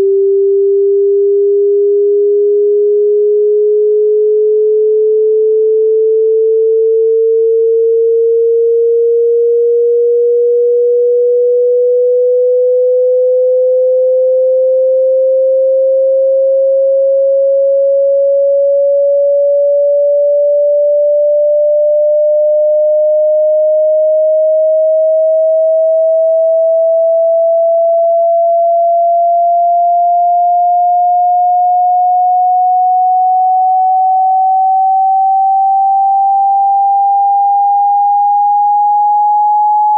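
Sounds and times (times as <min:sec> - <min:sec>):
sine tone gliding upward: 0:00.0 - 0:39.9.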